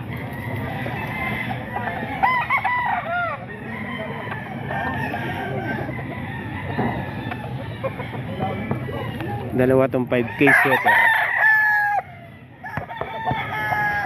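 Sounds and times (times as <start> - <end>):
roosters crowing and clucking: 0.0 - 14.0.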